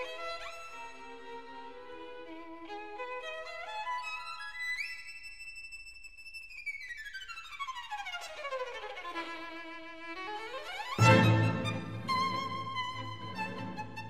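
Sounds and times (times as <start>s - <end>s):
solo violin: 0.0s - 14.0s.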